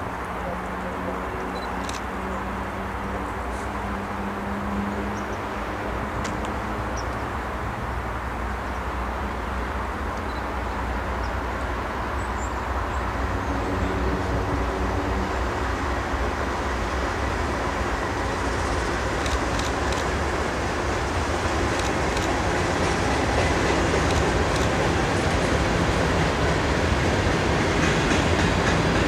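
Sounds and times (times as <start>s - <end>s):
diesel locomotive engine rumble: 0.0s - 29.0s.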